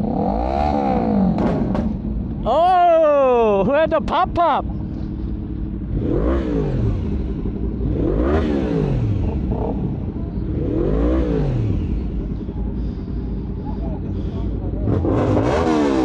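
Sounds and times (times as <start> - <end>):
motorcycle engine revving: 0.0 - 2.3, 5.0 - 16.0.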